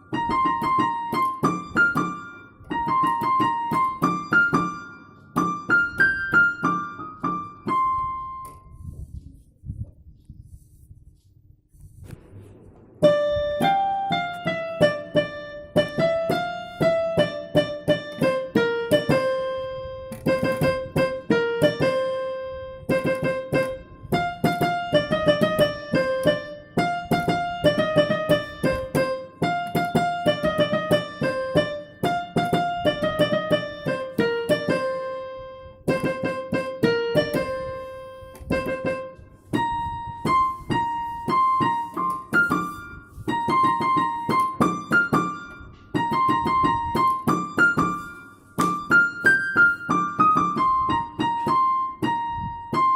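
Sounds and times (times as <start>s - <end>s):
piano melody: 0.0s - 9.5s, 12.0s - 52.9s.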